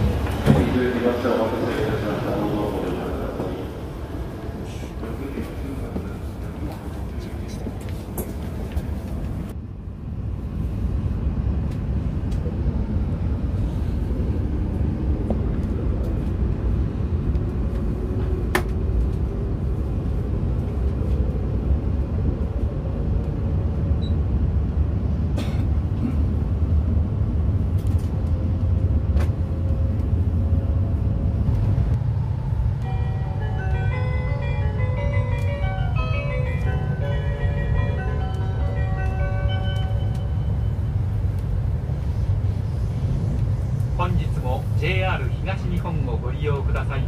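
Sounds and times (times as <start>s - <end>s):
train cabin rumble: 0.0s - 47.0s.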